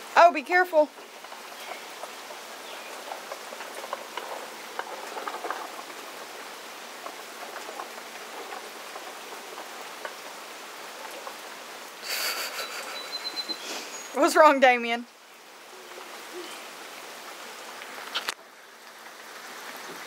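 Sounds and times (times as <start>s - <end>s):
rain on wet pavement: 0.0s - 20.0s.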